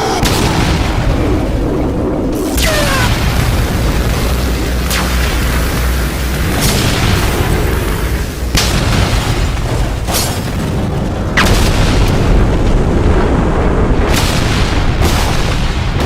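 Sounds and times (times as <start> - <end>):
explosion booms: 0.0 - 16.0
heavy low rumble: 0.0 - 16.0.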